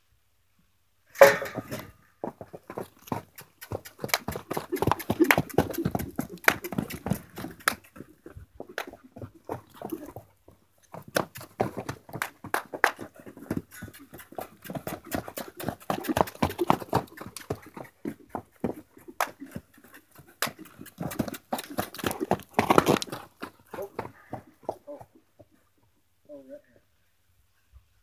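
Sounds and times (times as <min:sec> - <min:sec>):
horse hoofbeats on dirt: 0:01.2 - 0:25.8.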